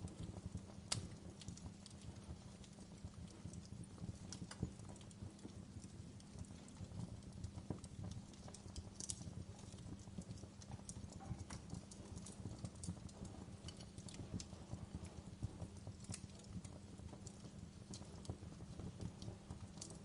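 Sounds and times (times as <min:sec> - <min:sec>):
wood fire burning rumble: 0:00.0 - 0:20.0.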